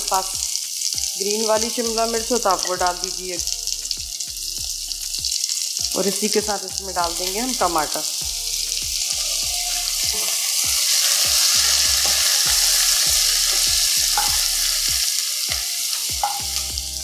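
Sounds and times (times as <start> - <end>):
spatula stirring: 0.0 - 17.0
vegetables sizzling in oil: 0.0 - 17.0.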